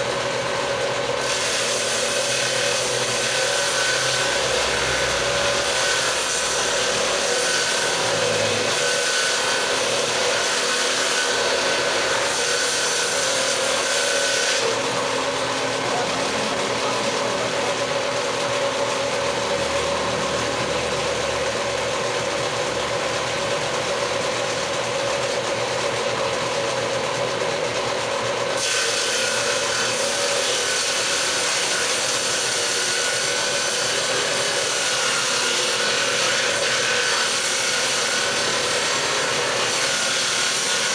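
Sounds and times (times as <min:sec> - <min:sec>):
power tool cutting wood: 0:00.0 - 0:40.9.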